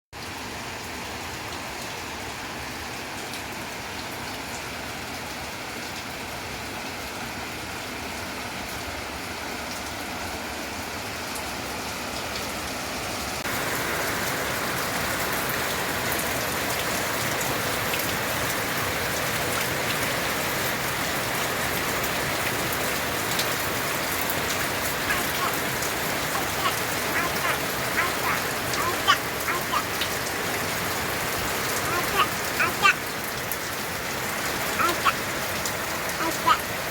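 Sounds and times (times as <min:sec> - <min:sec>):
steady rain hiss: 0:00.2 - 0:36.9.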